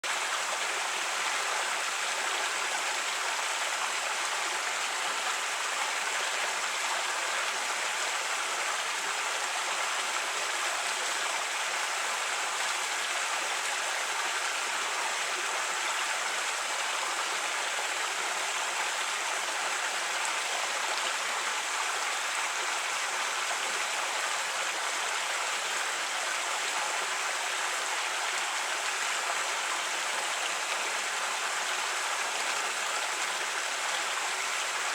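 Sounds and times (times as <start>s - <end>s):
creek running over rocks: 0.0s - 34.9s.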